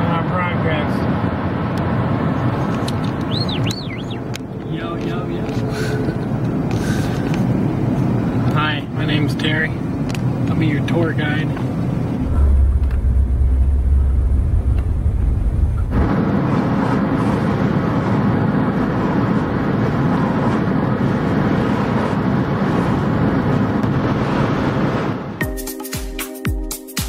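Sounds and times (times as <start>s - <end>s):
road and wind noise in car: 0.0s - 25.4s.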